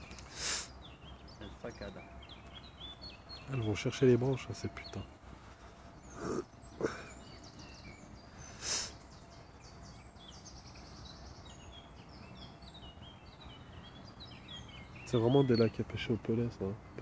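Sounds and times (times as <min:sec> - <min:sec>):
faint outdoor background noise: 0:00.0 - 0:17.0
songbird chirping and trilling: 0:00.0 - 0:17.0.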